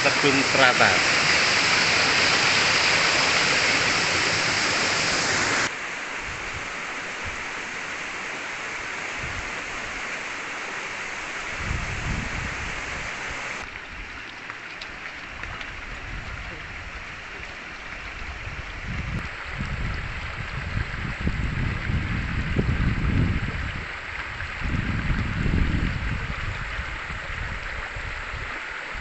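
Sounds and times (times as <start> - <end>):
small waterfall rushing: 0.0 - 29.0.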